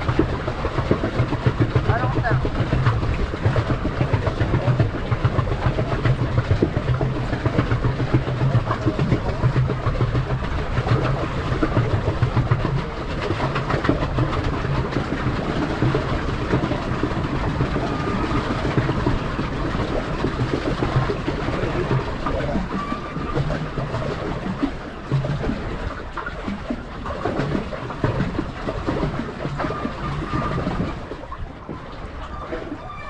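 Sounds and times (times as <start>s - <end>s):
constant low rumble: 0.0s - 33.0s
water splashing against pedal boat: 0.0s - 33.0s.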